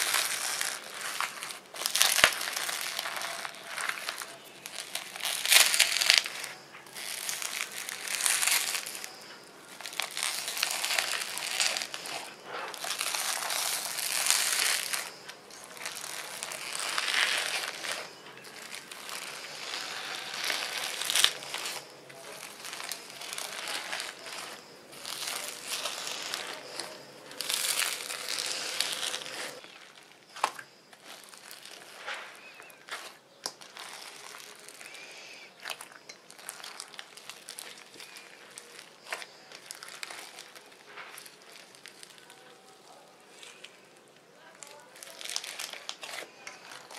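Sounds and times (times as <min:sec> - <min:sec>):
foam slime squished by hand: 0:00.0 - 0:43.7, 0:44.5 - 0:46.9.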